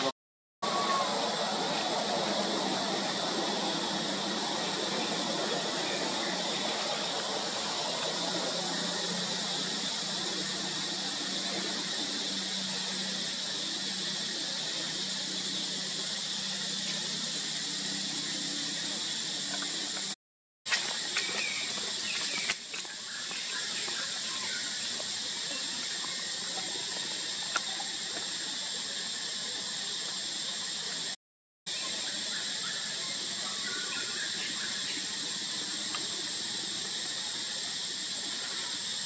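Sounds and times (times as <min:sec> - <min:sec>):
forest insects droning: 0:00.0 - 0:39.0.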